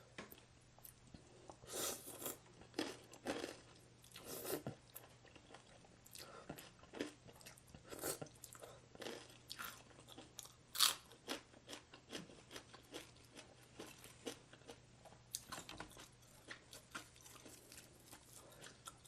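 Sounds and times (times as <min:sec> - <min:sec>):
chewing crunchy food: 0:00.8 - 0:19.0.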